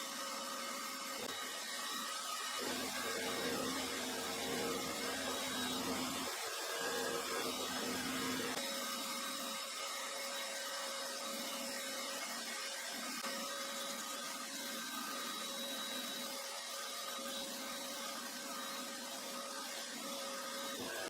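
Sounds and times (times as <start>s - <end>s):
small motor whirring: 0.0s - 21.0s.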